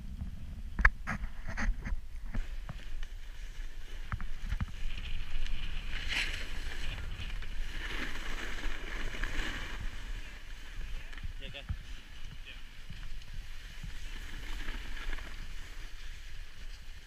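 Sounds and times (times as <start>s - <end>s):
wind rumbling on microphone: 0.0s - 17.0s
snowboard sliding over snow: 1.4s - 17.0s.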